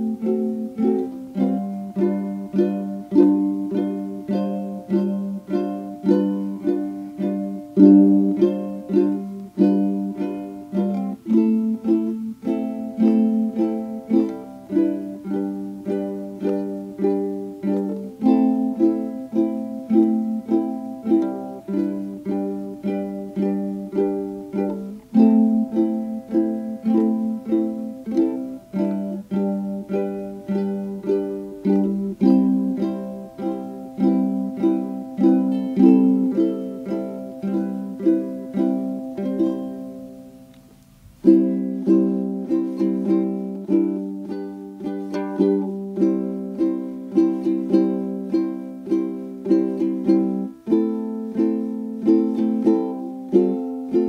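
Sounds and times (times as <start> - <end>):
plucked-string tune: 0.0 - 54.0.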